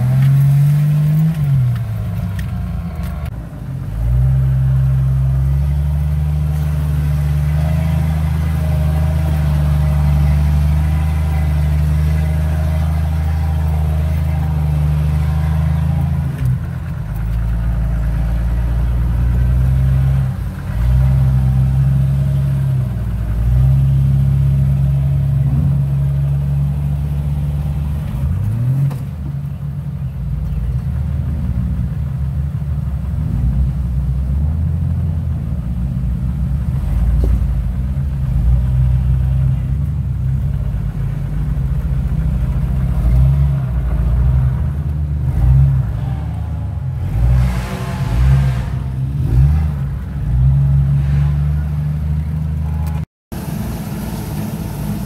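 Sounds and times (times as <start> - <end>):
off-road vehicle engine at low revs: 0.0 - 55.0.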